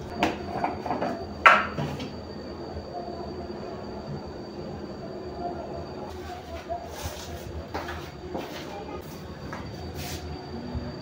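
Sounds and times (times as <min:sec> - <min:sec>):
faint high whine: 0:00.0 - 0:11.0
steady low hum: 0:00.0 - 0:11.0.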